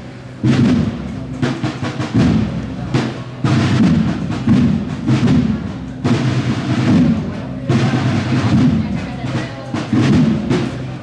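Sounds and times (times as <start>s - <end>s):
band playing processional music: 0.0s - 11.0s
drum beats: 0.0s - 11.0s.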